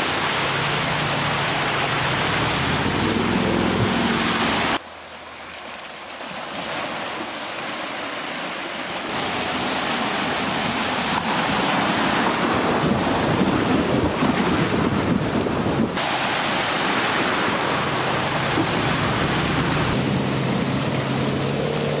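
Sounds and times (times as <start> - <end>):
low engine hum: 0.0 - 6.0, 9.2 - 22.0
floodwater surging and splashing: 0.0 - 22.0.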